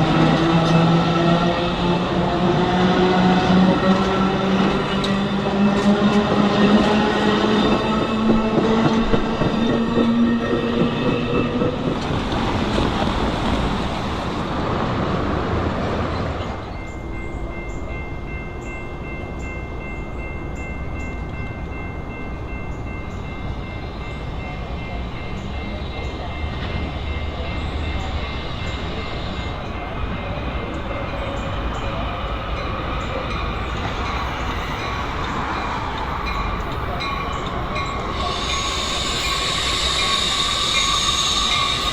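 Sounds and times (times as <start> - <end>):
train rolling on rails: 0.0 - 41.9.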